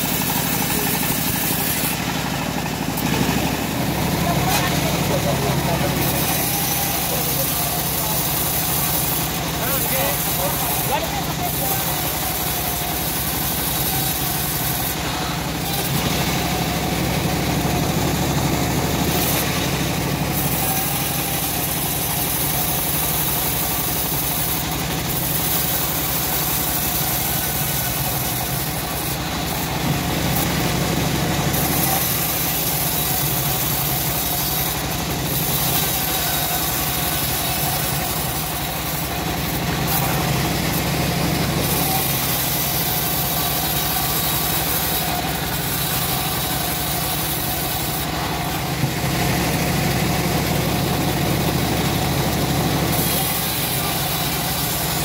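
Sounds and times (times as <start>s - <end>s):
bandsaw blade sawing log: 0.0s - 55.0s
engine drone: 0.0s - 55.0s.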